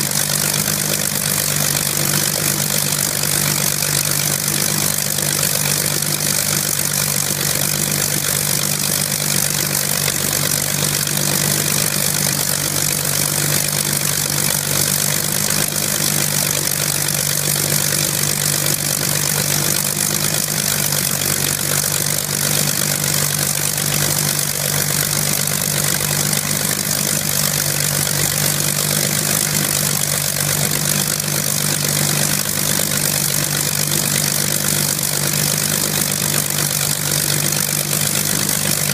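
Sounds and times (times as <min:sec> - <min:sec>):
aircraft engine idling: 0:00.0 - 0:38.9.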